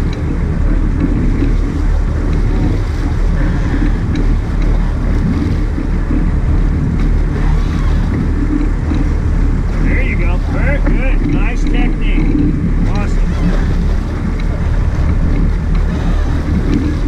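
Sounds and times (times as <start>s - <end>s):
boat engines droning: 0.0s - 17.0s
water rushing: 0.0s - 17.0s
wind: 0.0s - 17.0s.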